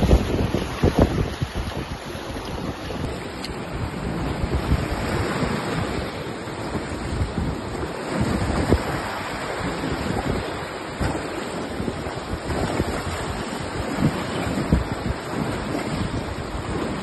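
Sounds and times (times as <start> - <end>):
whitewater river roaring: 0.0 - 17.0
wind on microphone: 0.0 - 17.0.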